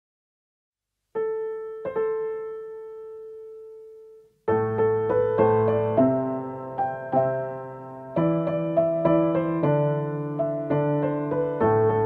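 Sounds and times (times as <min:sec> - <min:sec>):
solo piano: 0:01.1 - 0:12.0.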